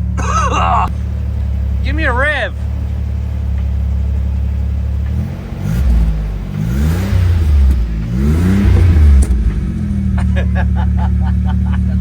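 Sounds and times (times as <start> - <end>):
pickup engine idling and revving: 0.0 - 12.0.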